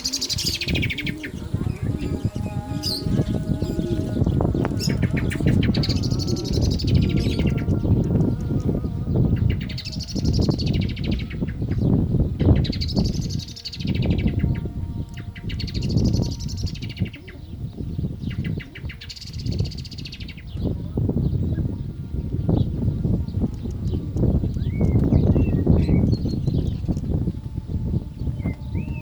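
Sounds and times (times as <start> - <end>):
blackbird singing: 0.0 - 29.0
call to prayer: 0.0 - 29.0.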